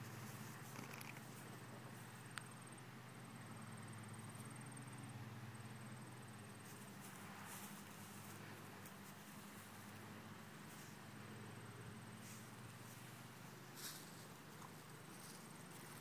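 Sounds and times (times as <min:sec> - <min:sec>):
faint low hum with hiss: 0:00.0 - 0:16.0.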